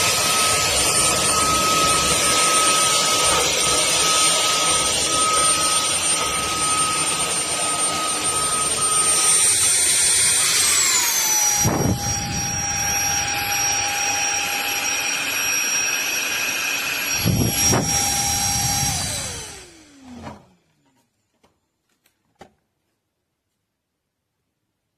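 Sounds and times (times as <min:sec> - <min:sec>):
vacuum cleaner motor running: 0:00.0 - 0:20.6.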